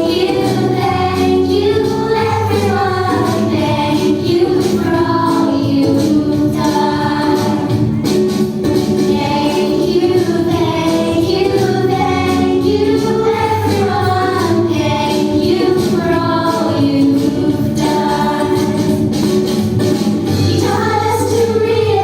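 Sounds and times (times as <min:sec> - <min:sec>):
choir singing: 0:00.0 - 0:07.8, 0:09.1 - 0:18.9, 0:20.4 - 0:22.0
musical accompaniment: 0:00.0 - 0:22.0.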